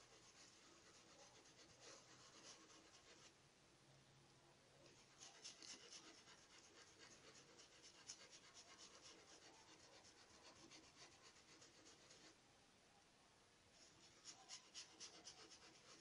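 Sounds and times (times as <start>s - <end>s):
paintbrush rubbing on towel: 0.0s - 3.3s, 4.9s - 12.4s, 13.8s - 16.0s.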